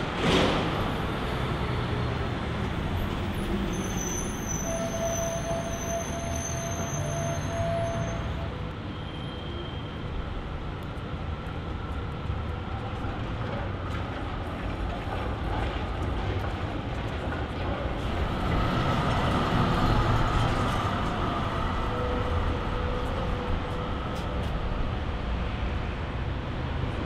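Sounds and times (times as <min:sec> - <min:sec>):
city traffic noise: 0:00.0 - 0:27.0
tram passing on rails: 0:00.0 - 0:27.0.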